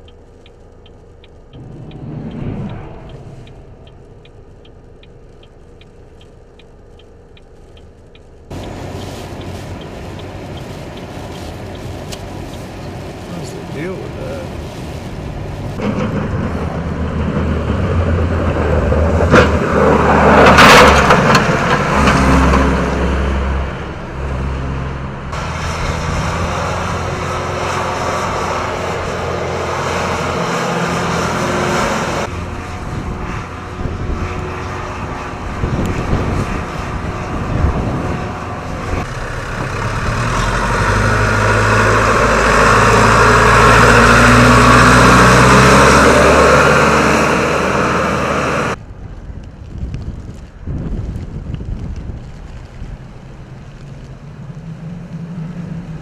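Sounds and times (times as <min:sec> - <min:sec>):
tractor engine passing: 0:00.0 - 0:48.8
plow truck engine: 0:00.0 - 0:48.9.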